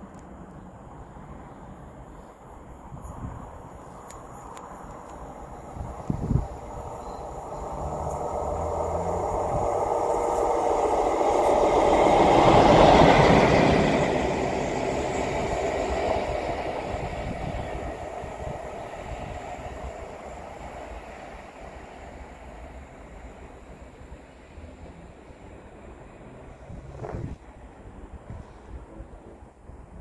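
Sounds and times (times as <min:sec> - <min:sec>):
diesel locomotive engine: 0:00.0 - 0:30.0.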